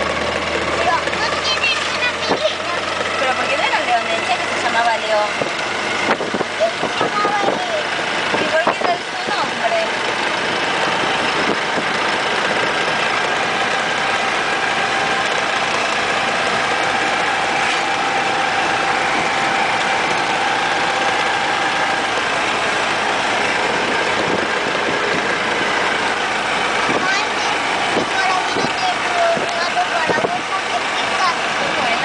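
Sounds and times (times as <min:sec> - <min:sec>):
car engine drone: 0:00.0 - 0:32.0.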